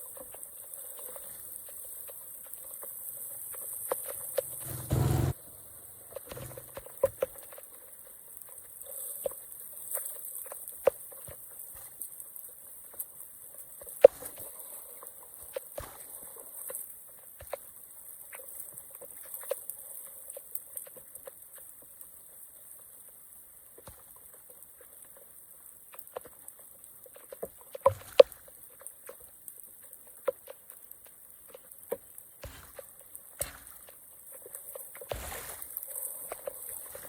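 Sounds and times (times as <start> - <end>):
water dripping and trickling: 0.0 - 4.8, 5.5 - 37.0.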